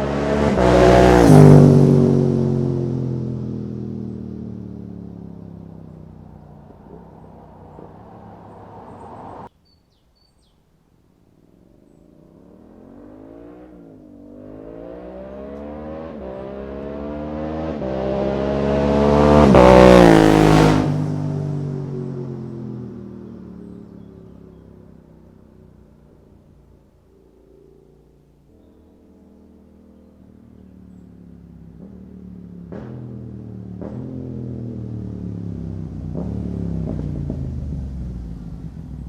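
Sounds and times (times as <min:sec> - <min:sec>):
motorcycle passing by: 0:00.0 - 0:09.5, 0:11.4 - 0:39.0.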